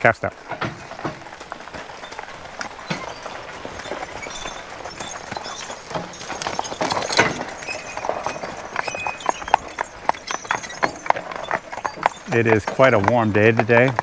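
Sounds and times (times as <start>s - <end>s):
horse hooves on paved road: 0.0s - 14.0s
wagon knocks and scuffs: 0.2s - 14.0s.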